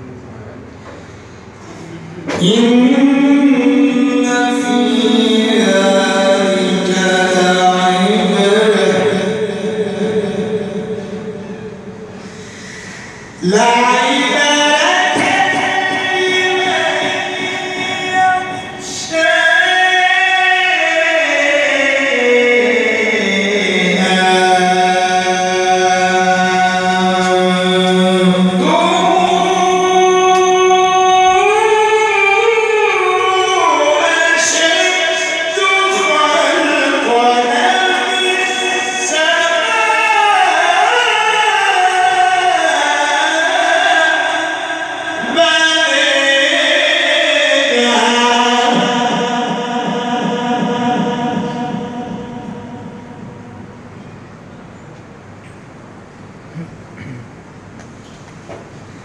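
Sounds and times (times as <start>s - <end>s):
man chanting melodically: 1.7s - 54.0s.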